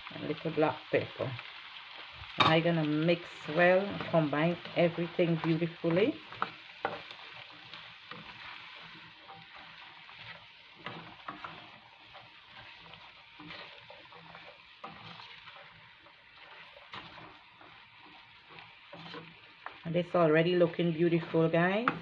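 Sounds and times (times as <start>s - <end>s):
food sizzling in a pan: 0.0s - 22.0s
spatula scraping and tapping pan: 3.4s - 19.9s, 20.7s - 22.0s.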